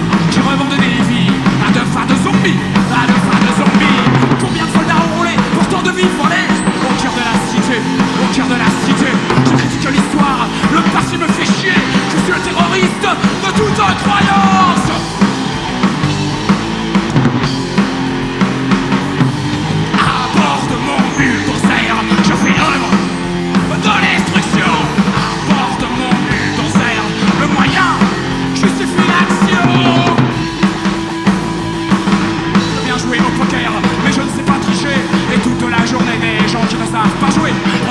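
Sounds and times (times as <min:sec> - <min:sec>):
bass drum and snare beat: 0:00.0 - 0:37.9
punk rock band playing live: 0:00.0 - 0:37.9.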